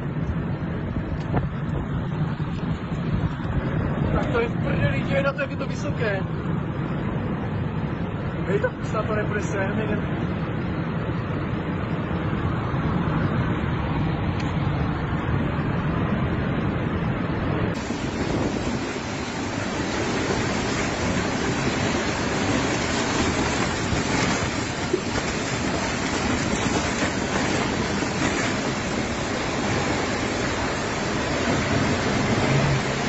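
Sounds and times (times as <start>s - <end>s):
tornado wind on microphone: 0.0s - 33.0s.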